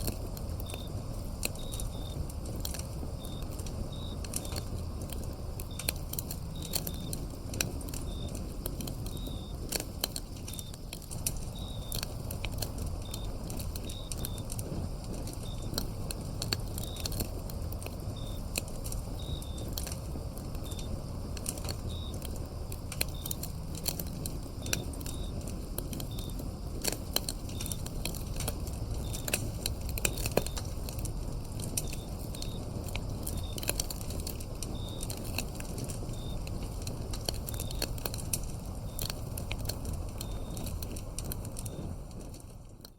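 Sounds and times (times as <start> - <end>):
crickets chirping: 0.0 - 42.9
wood fire crackling and popping: 0.0 - 42.9.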